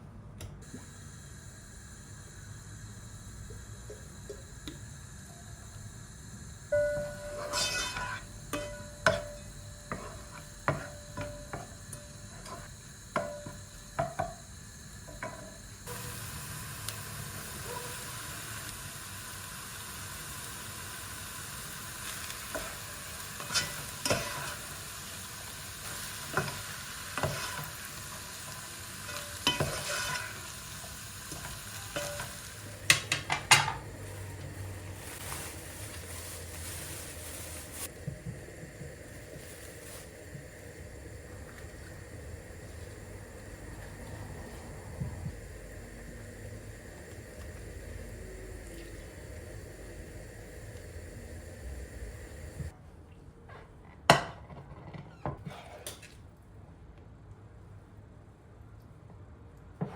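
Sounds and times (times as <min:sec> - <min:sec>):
food sizzling frying: 0:00.8 - 0:52.8.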